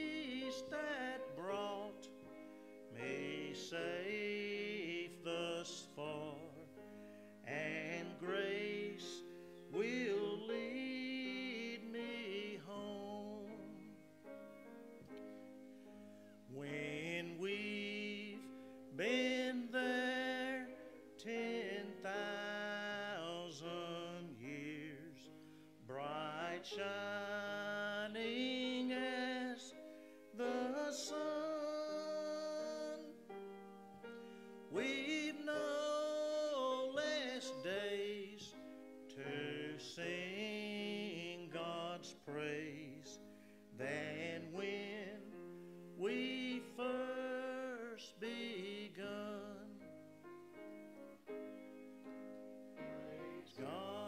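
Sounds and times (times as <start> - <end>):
man singing a hymn: 0.0 - 14.2, 16.2 - 33.5, 34.2 - 50.2, 52.8 - 54.0.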